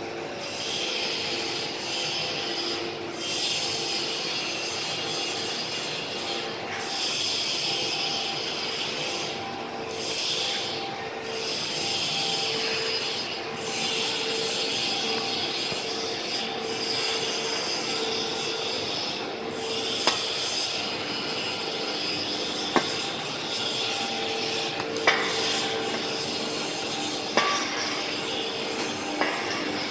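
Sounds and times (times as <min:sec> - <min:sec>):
constant hum: 0:00.0 - 0:29.9
machine running: 0:00.0 - 0:29.9.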